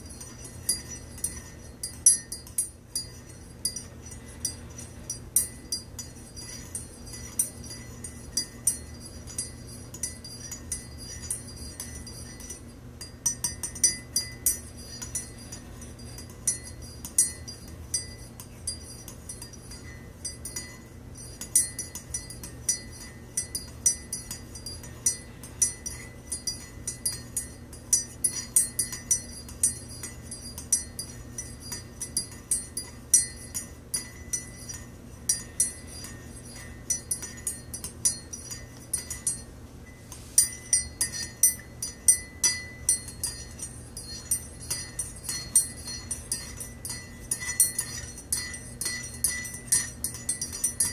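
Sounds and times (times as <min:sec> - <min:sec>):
steady low hum: 0:00.0 - 0:50.9
teaspoon clinking in ceramic mug: 0:00.0 - 0:50.9.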